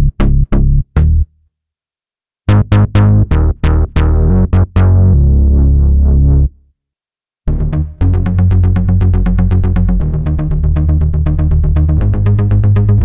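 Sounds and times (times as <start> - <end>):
synthesizer bass notes: 0.0 - 1.3, 2.5 - 6.6, 7.5 - 13.0.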